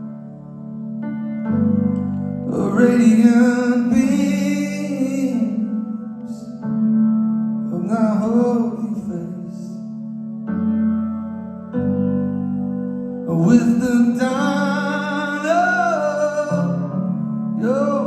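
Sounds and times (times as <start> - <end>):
sustained keyboard chords: 0.0 - 18.0.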